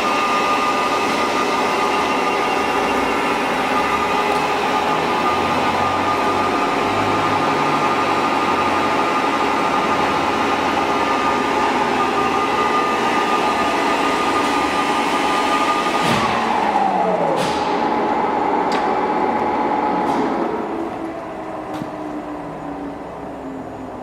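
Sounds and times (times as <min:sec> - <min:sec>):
surface grinder whine and hum: 0:00.0 - 0:24.0.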